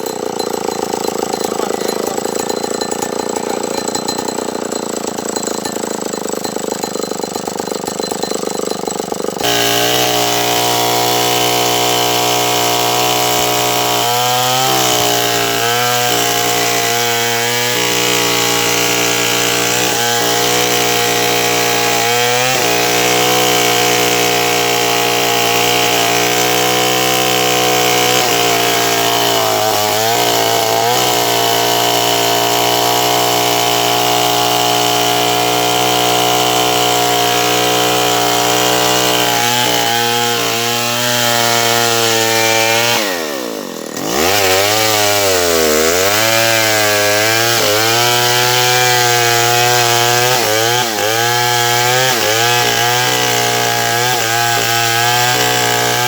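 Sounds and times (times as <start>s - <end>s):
chainsaw sawing wood: 0.0s - 56.0s.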